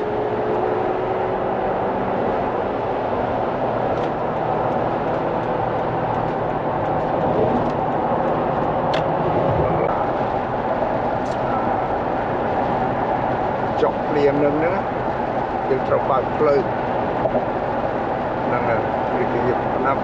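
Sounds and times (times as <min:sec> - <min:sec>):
car tyres on wet road: 0:00.0 - 0:20.0.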